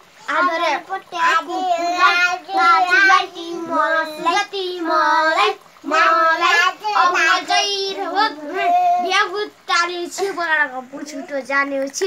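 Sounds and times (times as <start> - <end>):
child singing: 0.2 - 11.4.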